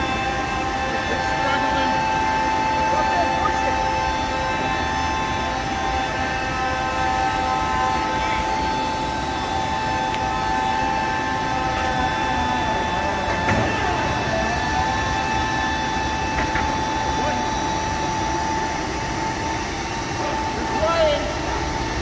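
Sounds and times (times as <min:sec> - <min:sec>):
hydraulic machine whine: 0:00.0 - 0:22.0.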